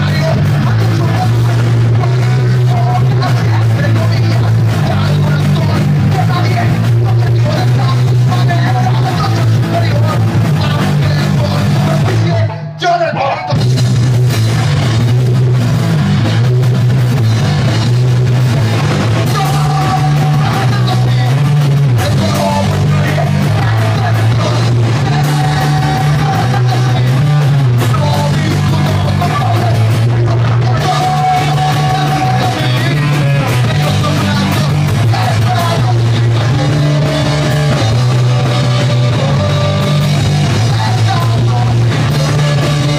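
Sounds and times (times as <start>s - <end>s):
drum kit: 0.0s - 12.7s, 13.5s - 42.9s
bass guitar: 0.0s - 42.9s
electric guitar: 0.0s - 42.9s
rock vocals: 0.0s - 42.9s.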